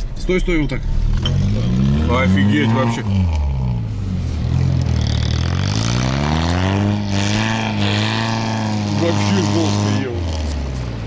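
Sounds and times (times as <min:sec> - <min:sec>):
off-road vehicle engine revving: 0:00.4 - 0:11.0.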